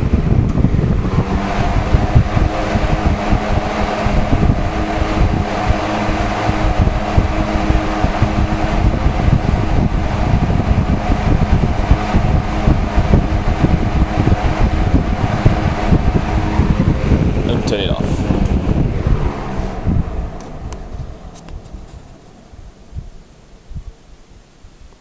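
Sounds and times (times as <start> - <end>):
box fan running: 0.0 - 25.0
wind buffeting microphone: 0.0 - 25.0.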